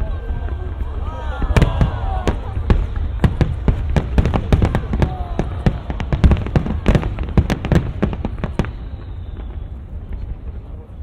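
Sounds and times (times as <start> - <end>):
fireworks cracks and bangs: 0.1 - 11.0.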